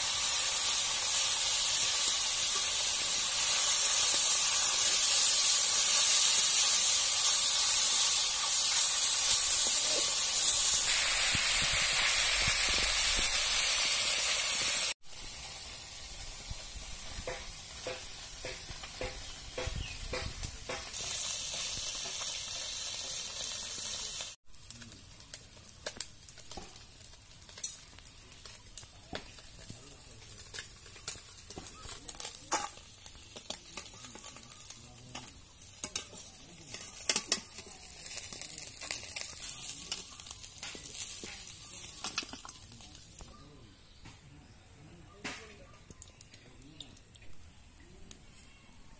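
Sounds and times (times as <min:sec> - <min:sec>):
fish sizzling in a pan: 0:00.0 - 0:43.3.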